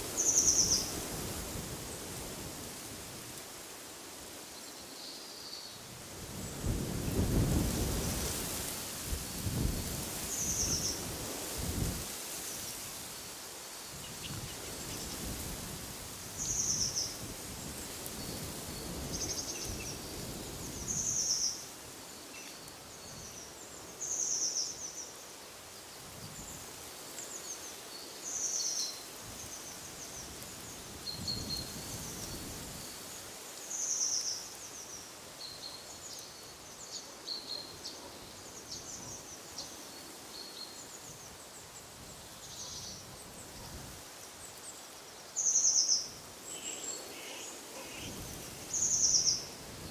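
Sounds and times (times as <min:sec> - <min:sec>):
wind rustling: 0:00.0 - 0:49.9.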